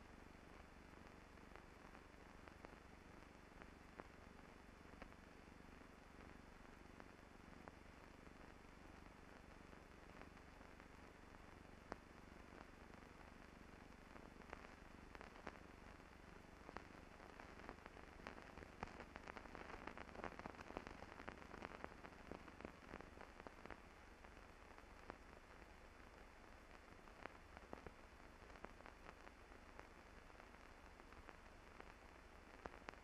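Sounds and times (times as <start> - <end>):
film soundtrack surface noise: 0.0 - 33.0.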